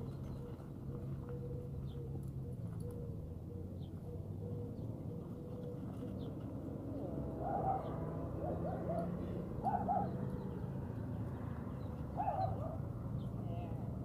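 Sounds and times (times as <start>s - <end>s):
bird cooing: 0.0s - 10.6s, 12.1s - 12.9s.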